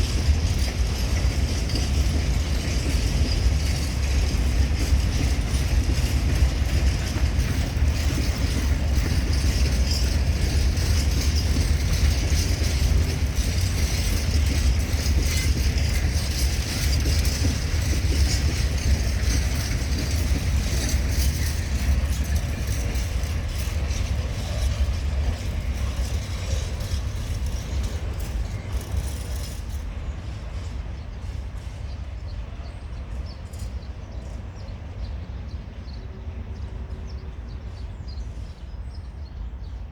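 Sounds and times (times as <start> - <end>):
faint train knocks: 0.0 - 39.4
diesel locomotive engine drone: 0.0 - 39.9
freight train rolling: 0.0 - 39.9.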